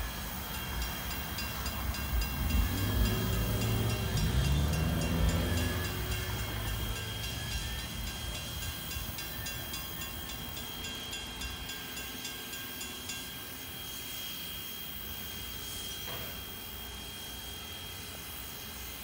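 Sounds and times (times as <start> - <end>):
steam locomotive exhaust chuffs: 0.0 - 19.0
train low rumble: 0.0 - 19.0.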